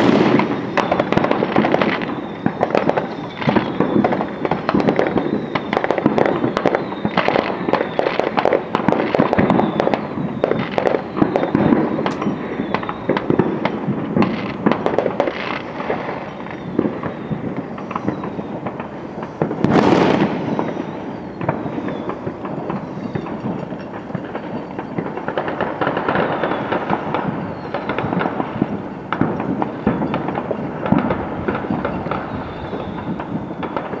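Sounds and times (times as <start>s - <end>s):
fireworks crackling and banging: 0.0s - 34.0s.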